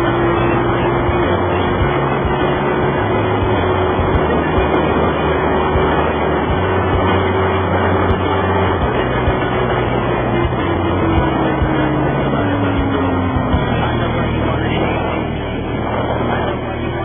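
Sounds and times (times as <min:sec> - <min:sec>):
motorcycle engine drone: 0:00.0 - 0:17.0
wind rush: 0:00.0 - 0:17.0.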